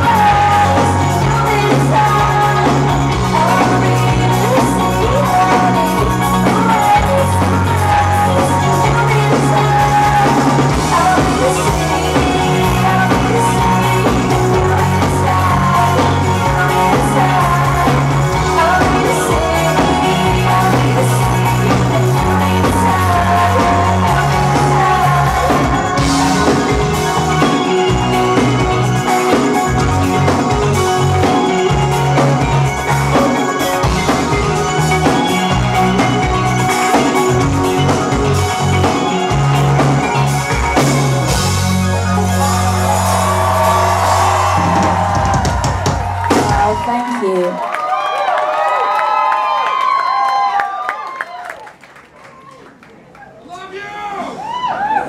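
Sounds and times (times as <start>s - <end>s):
drum kit beat: 0.0s - 47.5s
pop band playing live: 0.0s - 51.5s.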